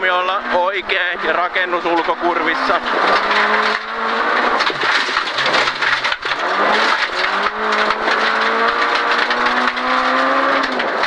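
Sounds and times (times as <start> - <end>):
car engine accelerating hard: 0.0 - 11.0
gravel and road noise: 0.0 - 11.0.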